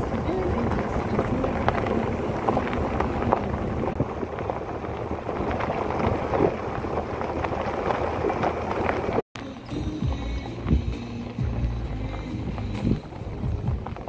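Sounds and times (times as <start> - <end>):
wind on microphone: 0.0 - 9.2, 9.8 - 14.0
vehicle driving on gravel: 0.0 - 14.0.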